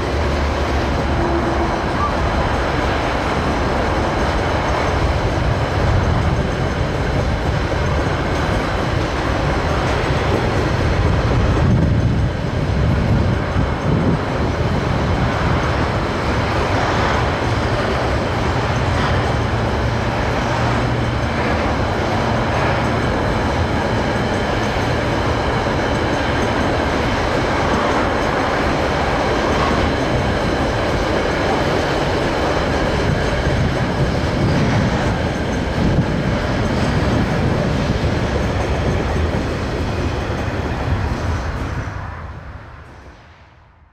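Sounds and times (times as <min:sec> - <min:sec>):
train wagons rolling: 0:00.0 - 0:43.3
diesel locomotive engine: 0:00.0 - 0:43.9.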